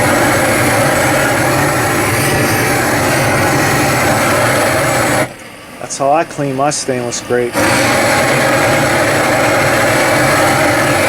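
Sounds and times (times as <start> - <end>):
burner roaring: 0.0 - 11.0.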